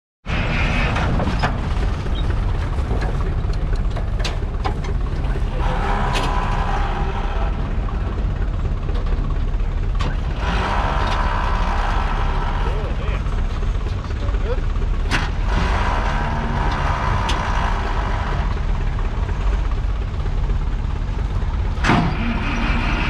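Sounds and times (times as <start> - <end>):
diesel engine rumbling: 0.2 - 23.0.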